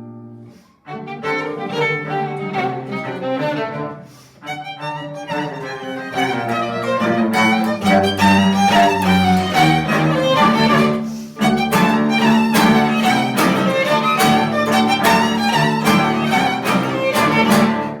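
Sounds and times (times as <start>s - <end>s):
bowed strings playing accented notes: 0.9s - 18.0s.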